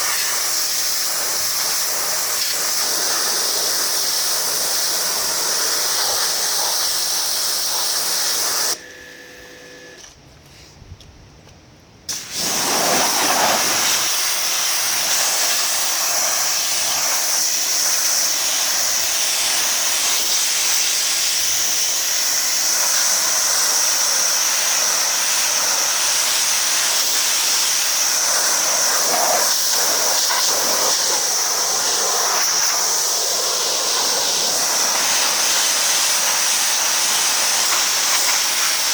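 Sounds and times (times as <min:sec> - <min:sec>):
pressure washer water jet hissing: 0:00.0 - 0:08.8, 0:12.1 - 0:38.9.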